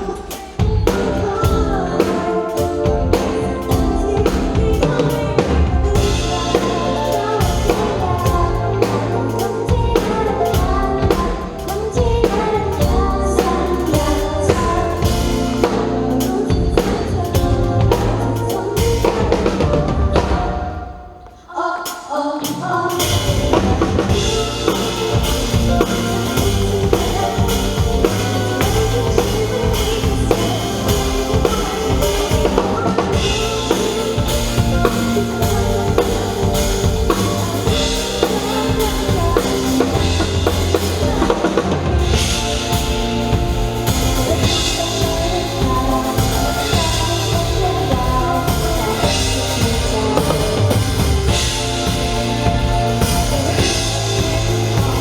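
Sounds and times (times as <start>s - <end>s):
drum kit beat: 0.0s - 21.3s, 21.9s - 55.0s
loud pop song: 0.0s - 55.0s.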